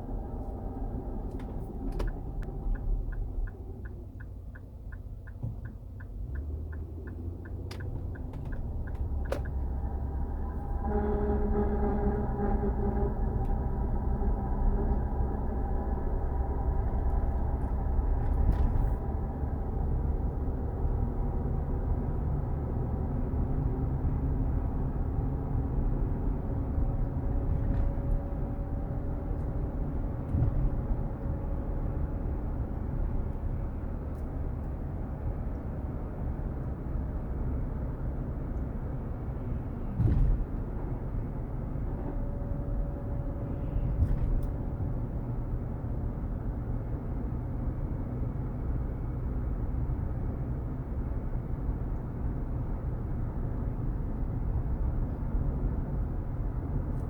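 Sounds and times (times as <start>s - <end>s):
road rumble: 0.0s - 57.0s.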